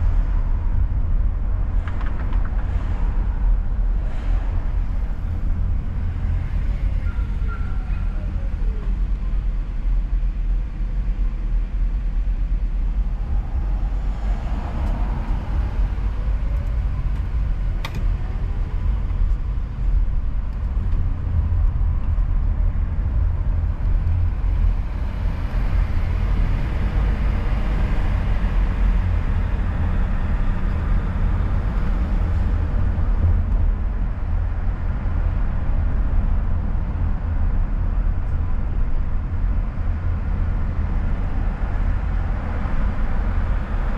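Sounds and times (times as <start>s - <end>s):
car engine and tyre rumble: 0.0s - 43.9s.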